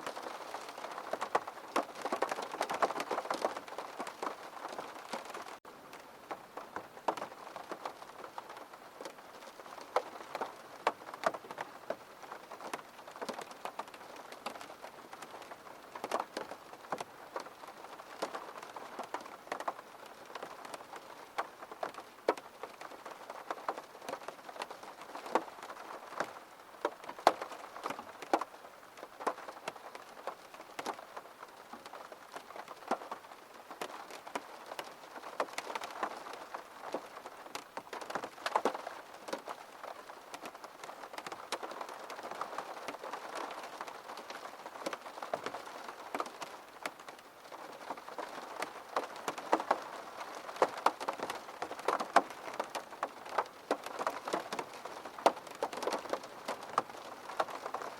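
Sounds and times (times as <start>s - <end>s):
rain pattering on a window: 0.0s - 57.9s.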